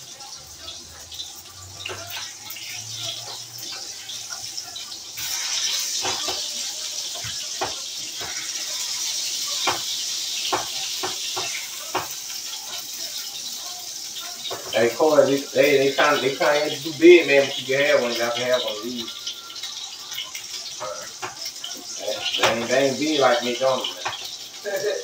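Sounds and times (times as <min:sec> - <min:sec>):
patties sizzling in a frying pan: 0:00.0 - 0:25.0.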